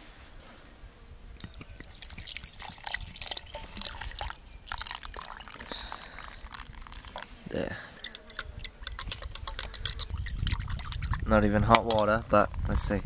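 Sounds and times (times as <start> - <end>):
water pouring and splashing: 1.4 - 12.2.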